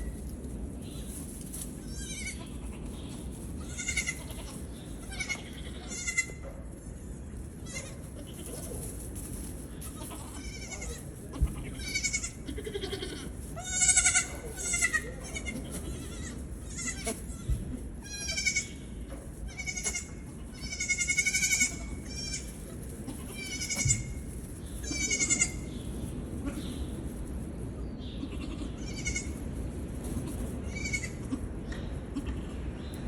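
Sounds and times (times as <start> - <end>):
baby goats bleating: 1.1 - 6.4, 7.5 - 8.9, 9.6 - 27.2, 28.1 - 29.5, 30.1 - 32.8.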